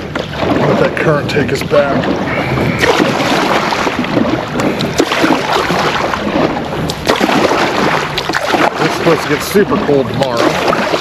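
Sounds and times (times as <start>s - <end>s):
water splashing against kayak: 0.0s - 11.0s
wind buffeting microphone: 0.0s - 11.0s.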